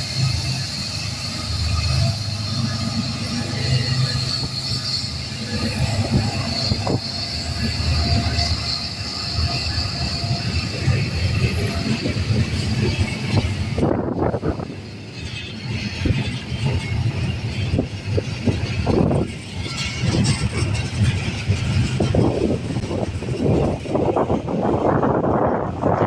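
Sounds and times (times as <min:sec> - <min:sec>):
high wheel squeal: 0:00.0 - 0:24.8
train cars rumbling: 0:00.0 - 0:26.0.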